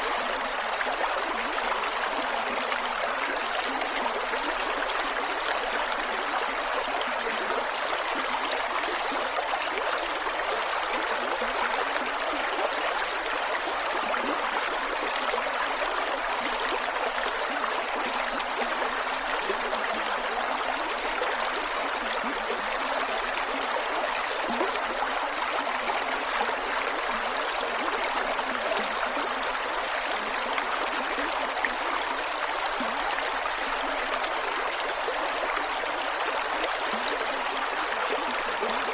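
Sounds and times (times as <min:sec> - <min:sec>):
creek water flowing over rocks: 0:00.0 - 0:38.9.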